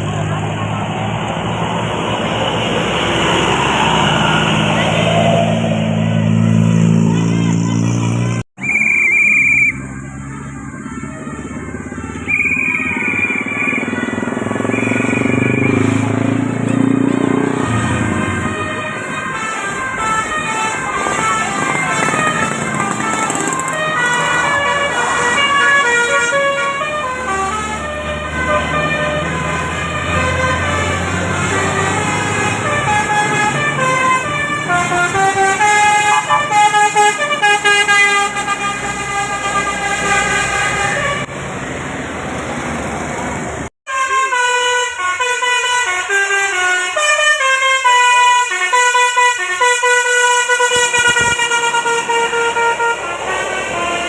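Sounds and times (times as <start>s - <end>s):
road noise: 0.0s - 54.0s
multi-tone bus horn melody: 4.6s - 41.3s, 43.8s - 54.0s.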